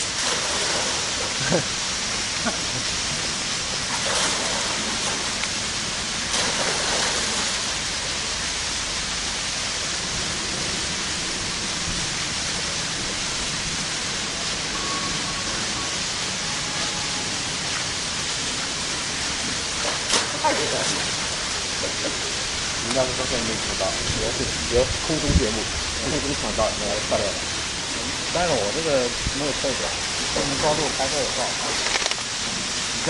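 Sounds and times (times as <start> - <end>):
running water hissing: 0.0 - 33.0.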